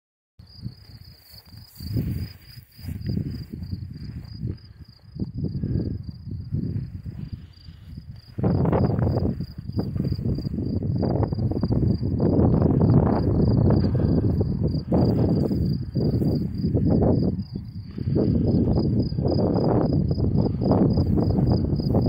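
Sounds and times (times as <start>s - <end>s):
insects chirring: 0.4s - 22.0s
wind buffeting microphone: 0.4s - 22.0s.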